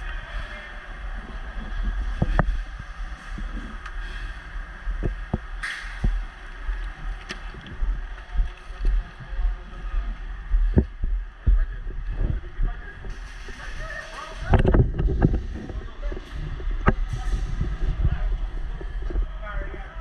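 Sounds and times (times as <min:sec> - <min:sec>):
rumbling thumps against microphone: 0:00.9 - 0:20.0.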